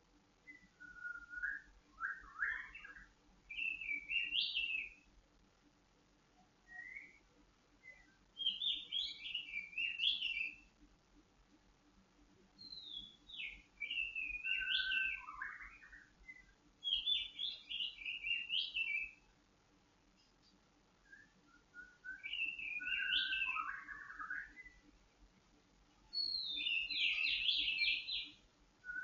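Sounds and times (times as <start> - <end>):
bird singing varied notes: 0.4 - 5.1, 6.6 - 10.8, 12.5 - 19.3, 20.2 - 25.0, 26.0 - 29.0.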